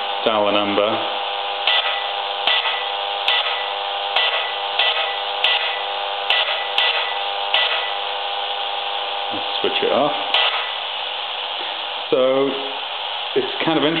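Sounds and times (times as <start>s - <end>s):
crackling bursts: 0.0s - 14.0s
electrical buzz through radio: 0.0s - 14.0s.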